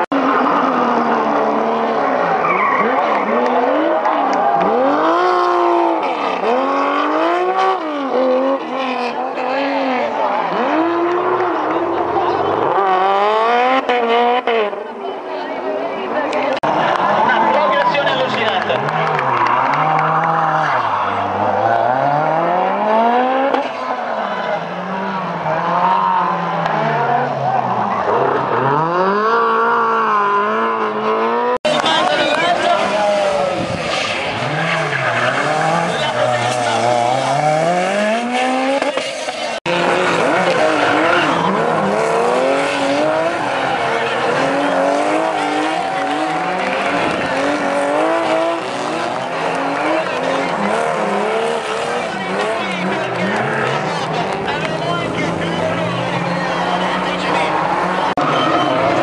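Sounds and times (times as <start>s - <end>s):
rally car engine revving hard: 0.0s - 15.2s, 18.6s - 59.0s
tyres skidding: 0.0s - 59.0s.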